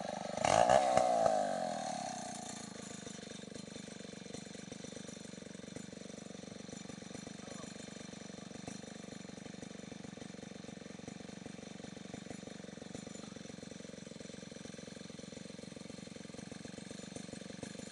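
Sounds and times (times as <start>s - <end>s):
chainsaw idling: 0.0s - 17.9s.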